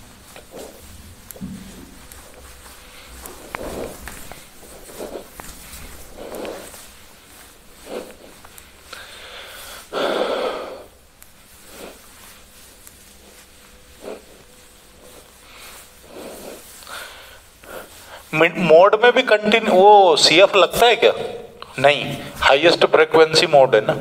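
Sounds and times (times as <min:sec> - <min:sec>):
cloth wiping a whiteboard: 0:00.0 - 0:24.0.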